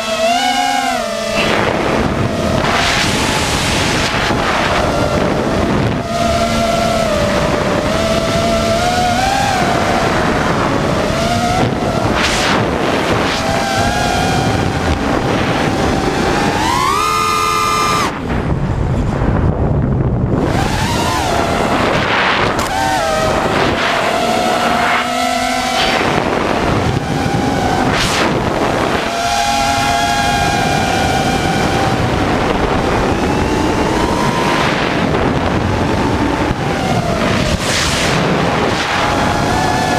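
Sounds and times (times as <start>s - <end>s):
drone motors whining: 0.0s - 39.9s
wind rushing across microphone: 1.2s - 39.9s.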